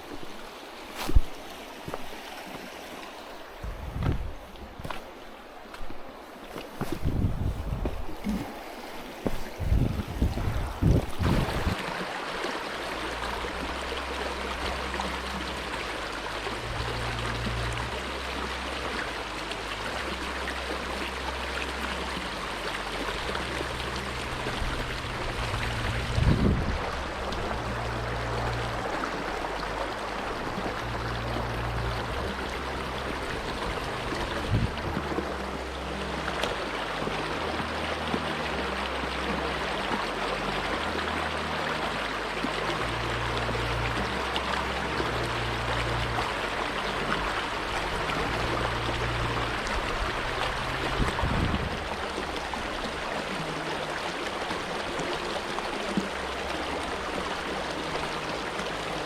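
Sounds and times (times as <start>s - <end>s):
river water rushing over rapids: 0.0s - 59.0s.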